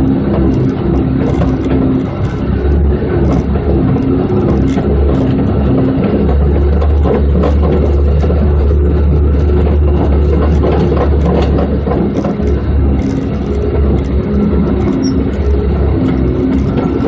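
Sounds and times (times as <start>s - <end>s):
rattles and knocks: 0.0s - 17.0s
vehicle engine running: 0.0s - 17.0s.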